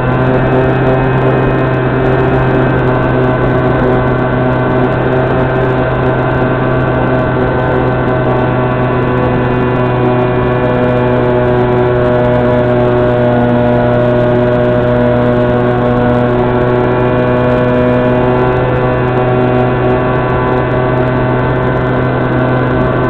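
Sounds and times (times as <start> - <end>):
model plane motor droning: 0.0 - 23.0.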